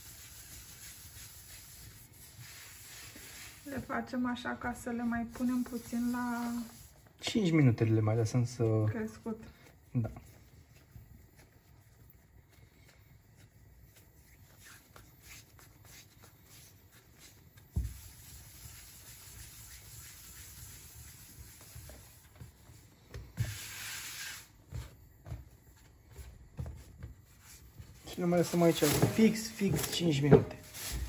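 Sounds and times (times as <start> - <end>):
dough rubbing and rustling: 0.0 - 31.0.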